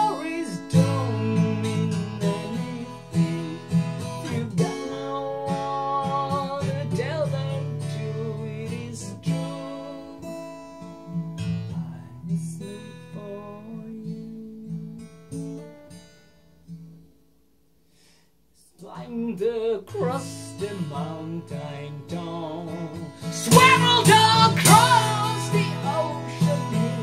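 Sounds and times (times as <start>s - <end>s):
man singing: 0.0s - 10.3s, 11.0s - 15.1s, 18.6s - 27.0s
acoustic guitar strumming: 0.0s - 18.1s, 18.9s - 27.0s.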